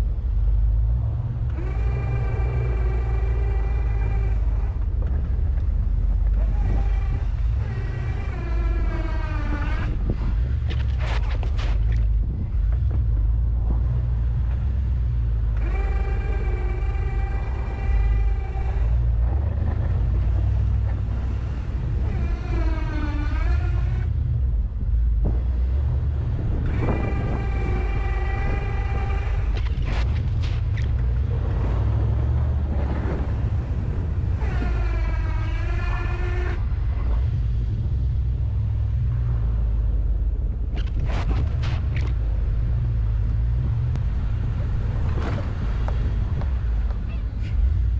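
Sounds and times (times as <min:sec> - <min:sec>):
hydraulic pump whine: 0:00.0 - 0:47.9
truck engine rumble: 0:00.0 - 0:47.9.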